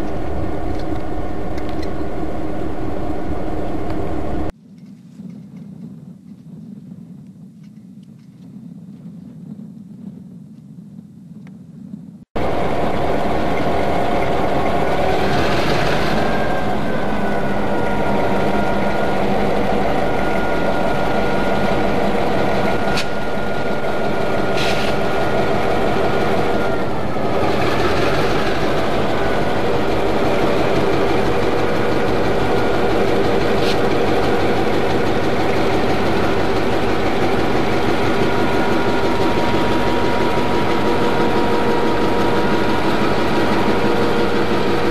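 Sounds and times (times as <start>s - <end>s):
diesel locomotive engines rumbling: 0.0s - 4.6s, 12.4s - 44.9s
steady high whine: 0.0s - 4.6s, 12.4s - 44.9s.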